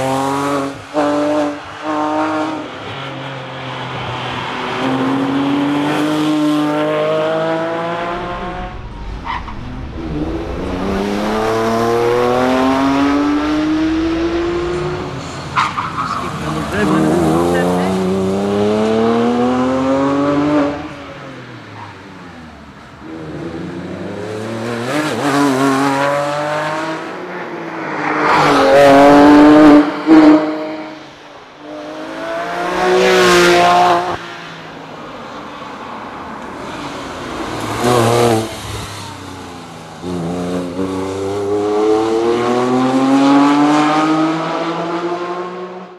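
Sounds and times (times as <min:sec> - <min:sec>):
sports car accelerating hard: 0:04.5 - 0:21.4, 0:22.3 - 0:31.0, 0:31.6 - 0:34.2, 0:36.4 - 0:45.9.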